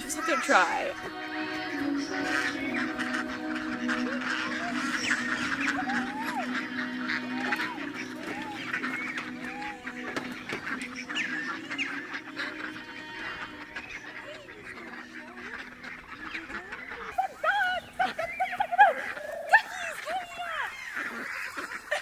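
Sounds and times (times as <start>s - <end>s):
soft background music: 0.0s - 19.4s
ducks or geese honking: 0.0s - 22.0s.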